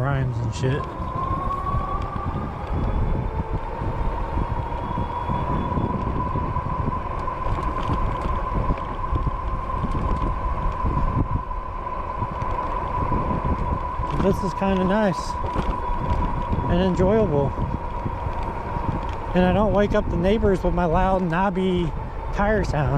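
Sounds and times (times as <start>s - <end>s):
wind rumbling on microphone: 0.0s - 22.9s
electric bike motor whining: 0.4s - 22.9s.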